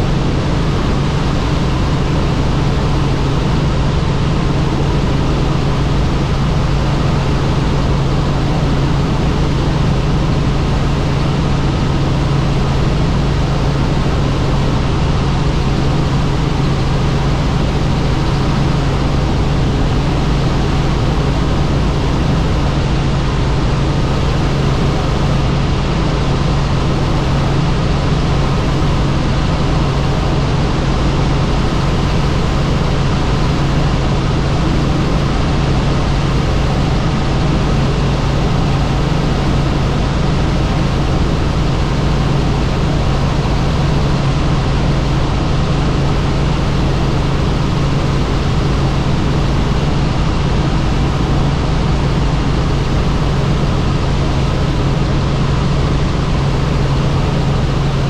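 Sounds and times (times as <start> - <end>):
helicopter engine and rotor noise: 0.0 - 58.0.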